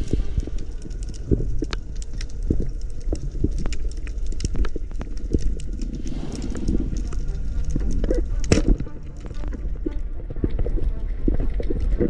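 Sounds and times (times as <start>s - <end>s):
sharp clicks and crackles: 0.0s - 12.0s
underwater rumble: 0.0s - 12.0s.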